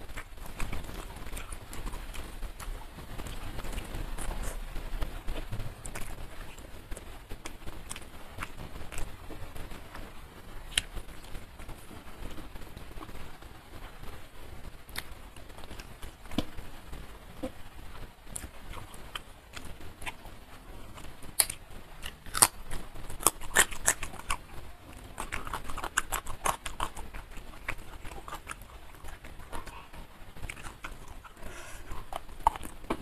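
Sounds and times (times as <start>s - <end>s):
person chewing food: 0.0s - 10.0s, 10.6s - 13.2s, 18.2s - 33.0s.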